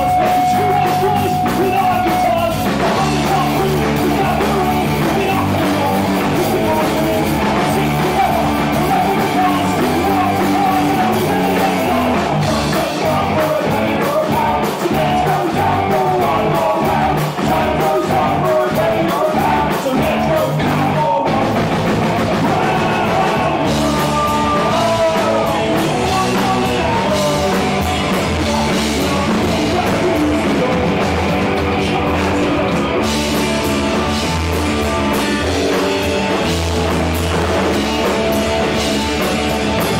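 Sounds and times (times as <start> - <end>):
person singing: 0.0 - 34.4
rock band playing live: 0.0 - 39.9.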